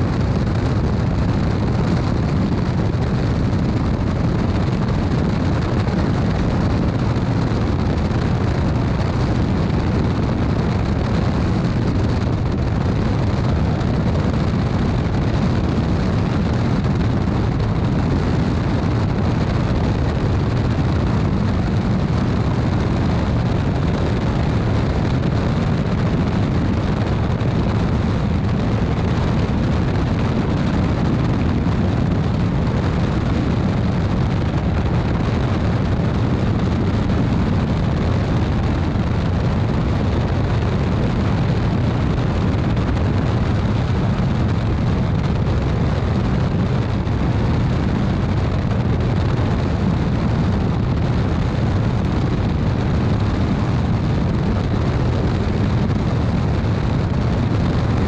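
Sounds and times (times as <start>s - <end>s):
light aircraft engine droning: 0.0s - 49.6s.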